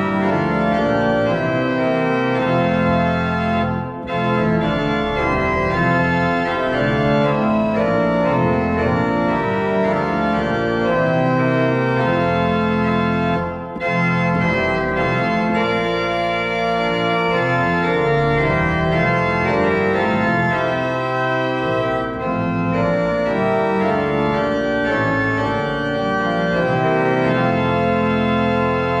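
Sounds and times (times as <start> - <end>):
organ chords: 0.0 - 29.0.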